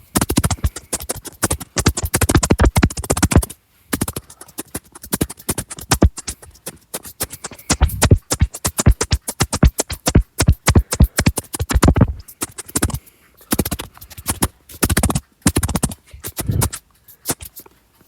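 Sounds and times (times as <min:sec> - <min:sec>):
scratchy rubbing on microphone: 0:00.0 - 0:17.7.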